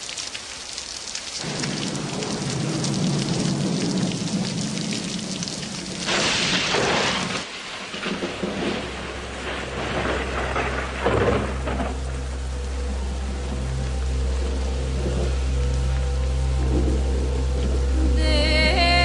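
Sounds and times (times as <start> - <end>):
steady rain: 0.0 - 19.0
thunder rumbling: 1.4 - 19.0.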